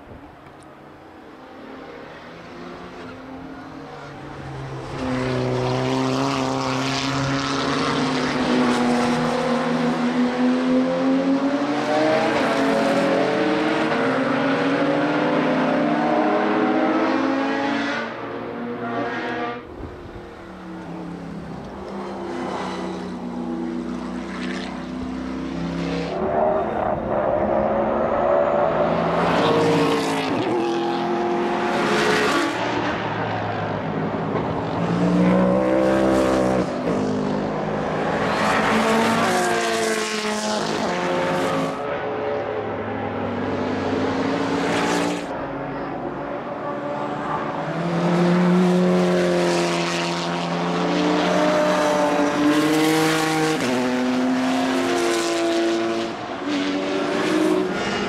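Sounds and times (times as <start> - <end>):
racing cars passing at full speed: 0.0 - 58.0.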